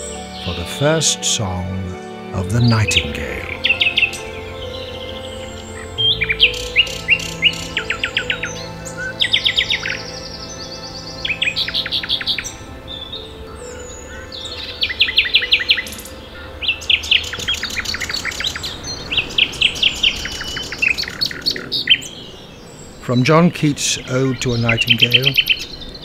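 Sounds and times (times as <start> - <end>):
nightingale singing: 0.0 - 26.0.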